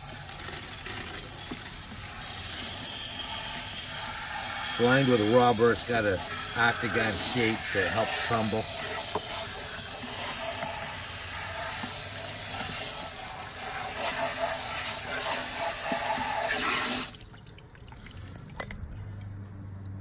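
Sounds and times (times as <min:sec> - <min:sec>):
hose spraying water into drum: 0:00.0 - 0:18.7.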